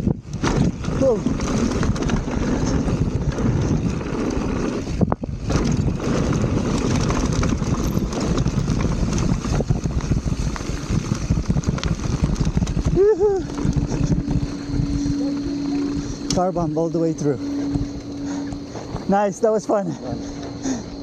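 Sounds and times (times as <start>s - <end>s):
bike rattling over dirt trail: 0.0s - 21.0s
wind rushing over microphone: 0.0s - 21.0s.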